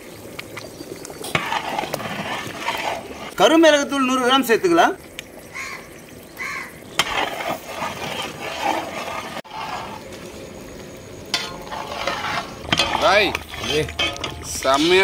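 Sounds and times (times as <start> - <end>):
gravy sizzling and sloshing: 0.0 - 15.0
paddle stirring thick gravy: 0.3 - 4.5, 6.4 - 15.0.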